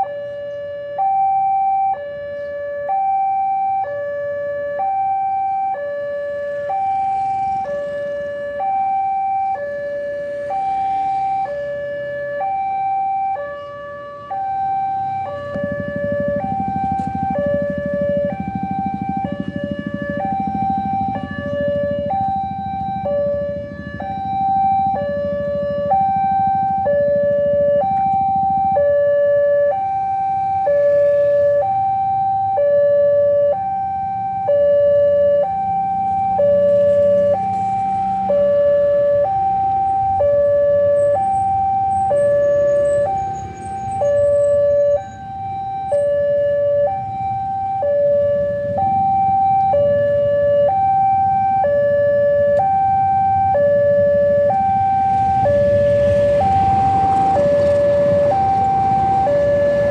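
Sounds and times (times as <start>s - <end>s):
car and motorbike engines idling: 0.1s - 59.9s.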